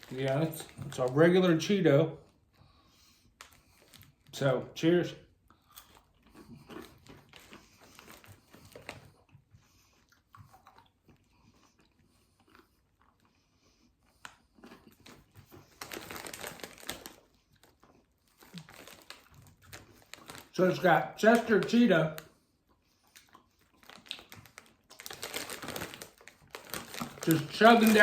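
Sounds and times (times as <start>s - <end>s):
chewing crunchy cheese puffs: 0.0s - 2.4s, 3.0s - 4.4s, 5.2s - 28.0s.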